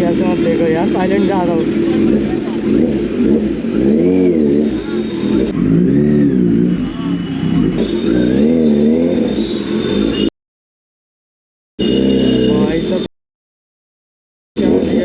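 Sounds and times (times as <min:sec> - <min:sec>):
motorcycle engine revving: 0:00.0 - 0:10.3, 0:11.8 - 0:13.1, 0:14.6 - 0:15.0.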